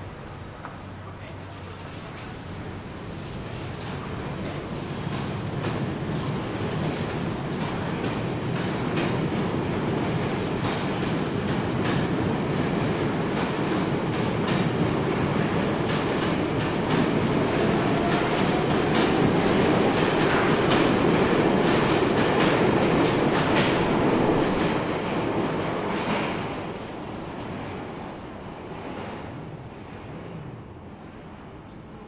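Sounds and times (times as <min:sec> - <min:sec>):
subway train rumbling on rails: 0:00.0 - 0:32.0.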